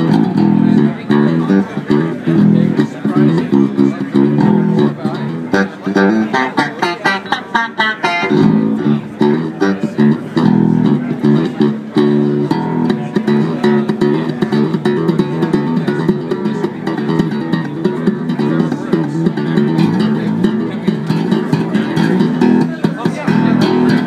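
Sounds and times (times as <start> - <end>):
bass guitar plucked notes: 0.0 - 24.0.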